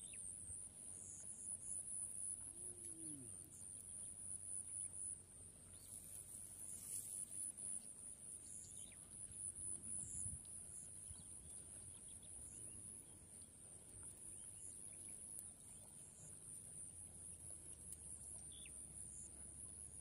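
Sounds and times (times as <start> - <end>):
soft chirps and ticks: 0.0 - 20.0.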